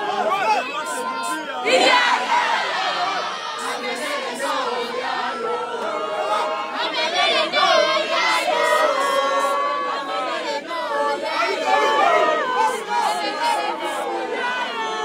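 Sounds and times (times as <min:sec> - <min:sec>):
crowd singing and chanting: 0:00.0 - 0:15.0.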